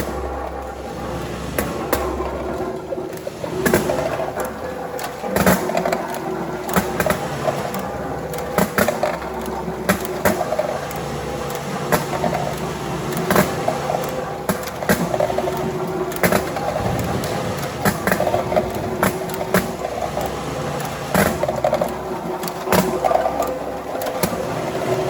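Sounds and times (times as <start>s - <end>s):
machine conveyors humming: 0.0s - 25.0s.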